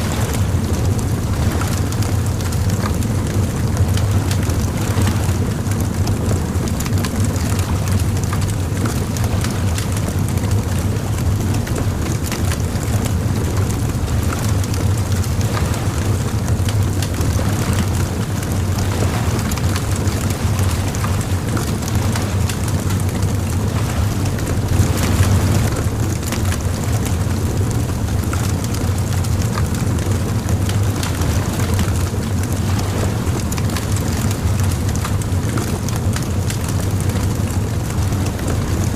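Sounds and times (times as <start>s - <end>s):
bonfire crackling and popping: 0.0s - 38.9s
steady low rumble: 0.0s - 38.9s.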